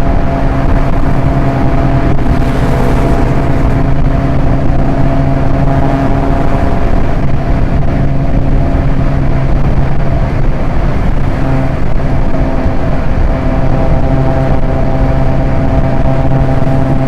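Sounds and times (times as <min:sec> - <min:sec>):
car engine droning: 0:00.0 - 0:17.0
tyre and road noise: 0:00.0 - 0:17.0.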